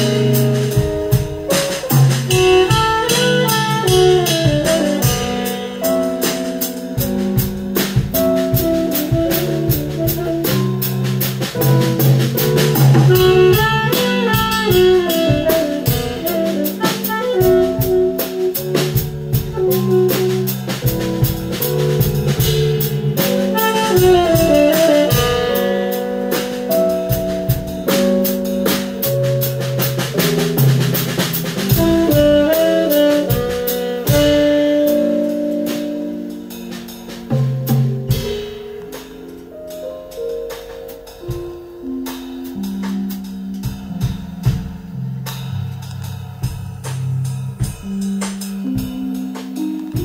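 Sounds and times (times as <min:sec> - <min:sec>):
saxophone melody: 0:00.0 - 0:40.2, 0:47.8 - 0:50.0
drum kit with cymbals: 0:00.0 - 0:50.0
keyboard: 0:00.0 - 0:50.0.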